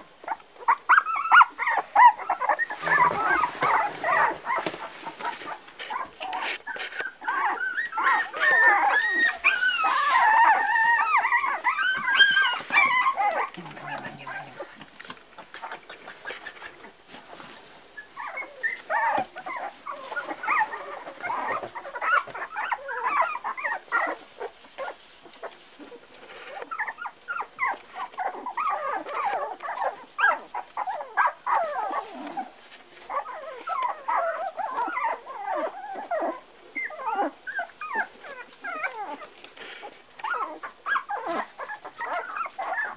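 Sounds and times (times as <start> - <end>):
puppies whining and yipping: 0.0 - 42.9
puppies squealing: 0.2 - 14.7, 18.0 - 25.0, 25.8 - 42.9.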